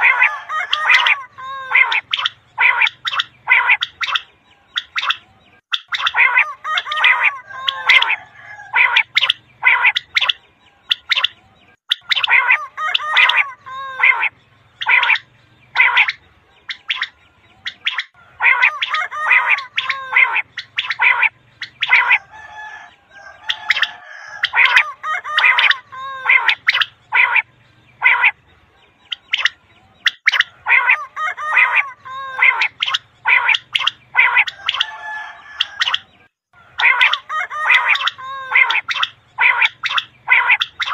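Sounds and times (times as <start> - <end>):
quail calling: 0.0 - 28.4, 29.0 - 40.9.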